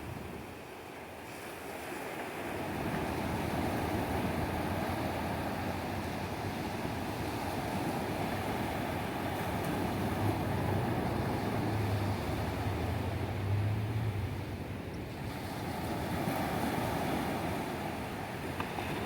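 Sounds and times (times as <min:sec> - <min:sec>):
ocean surf washing onto beach: 0:00.0 - 0:19.0.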